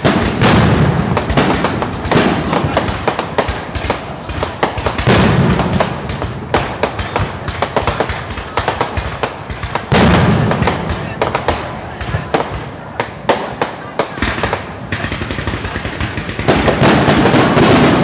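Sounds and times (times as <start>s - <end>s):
fireworks popping and cracking: 0.0s - 18.0s
heavy firework booms: 0.0s - 18.0s.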